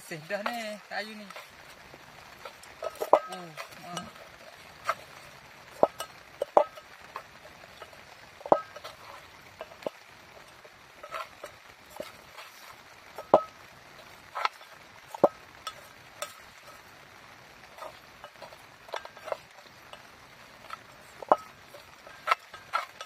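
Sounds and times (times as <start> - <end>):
faint steady hiss: 0.0 - 23.0
wood fire crackling and popping: 0.0 - 23.0.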